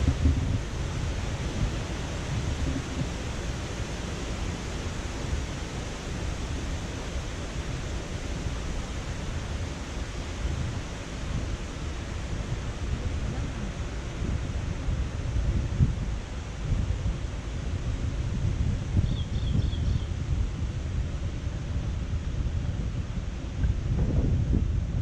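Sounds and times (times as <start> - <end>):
car road and wind noise: 0.0 - 25.0.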